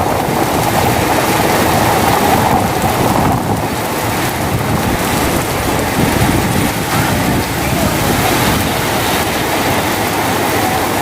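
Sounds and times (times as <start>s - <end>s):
heavy rain pouring: 0.0s - 11.0s
wind rumble on microphone: 0.0s - 11.0s.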